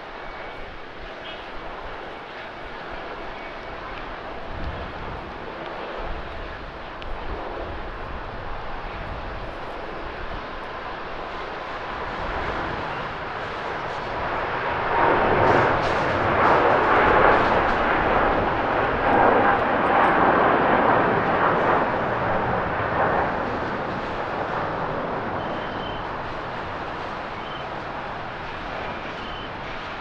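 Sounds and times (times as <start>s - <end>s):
jet engine roar at takeoff: 0.0s - 30.0s.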